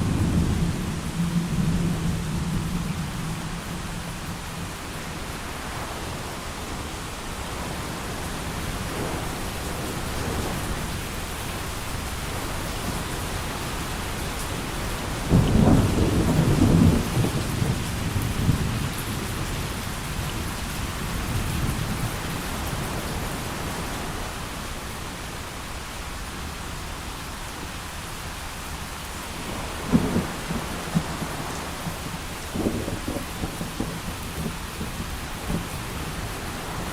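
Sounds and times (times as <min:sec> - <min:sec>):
thunder rumbling: 0:00.0 - 0:23.6, 0:29.3 - 0:36.9
heavy rain: 0:00.0 - 0:36.9.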